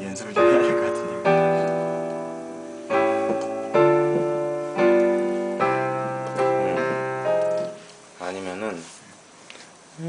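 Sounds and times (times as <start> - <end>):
piano chords ringing: 0.0 - 8.7.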